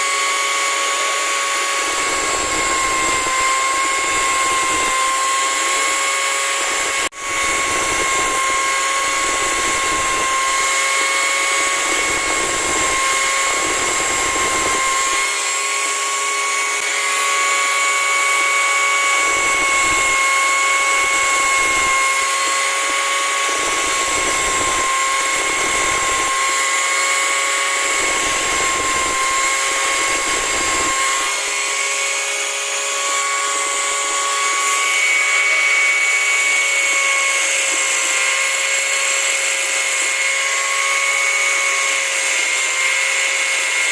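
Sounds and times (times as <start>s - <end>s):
electric grinder sharpening chain: 1.7s - 43.9s.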